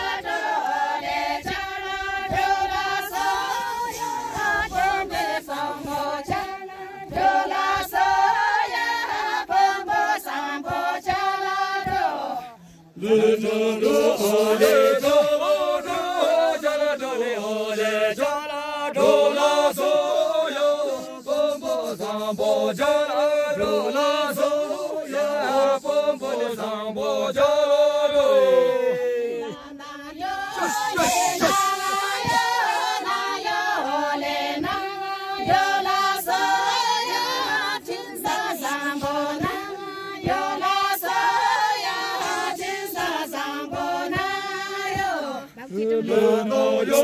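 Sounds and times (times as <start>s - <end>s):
group singing a chant: 0.0s - 47.0s.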